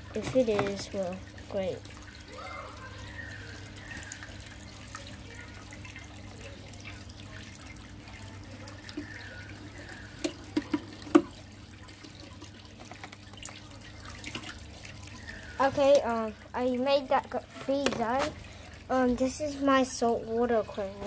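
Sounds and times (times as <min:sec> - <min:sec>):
low steady hum: 0:00.0 - 0:21.0
water trickling and splashing: 0:00.0 - 0:21.0.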